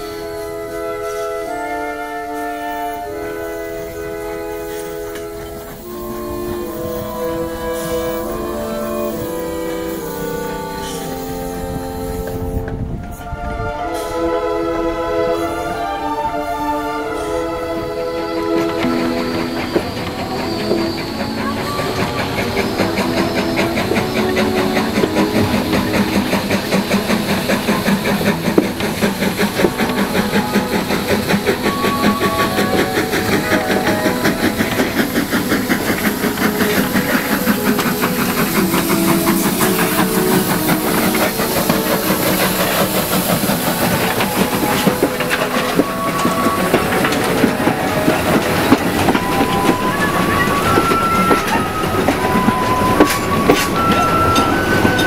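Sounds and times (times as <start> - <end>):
steam hissing: 0.0 - 55.0
train rhythmic clatter: 0.0 - 55.0.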